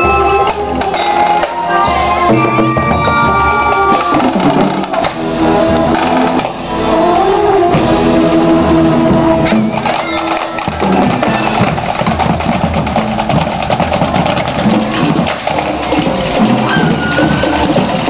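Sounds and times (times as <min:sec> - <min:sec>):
drumline cadence: 0:00.0 - 0:07.0, 0:07.7 - 0:18.0.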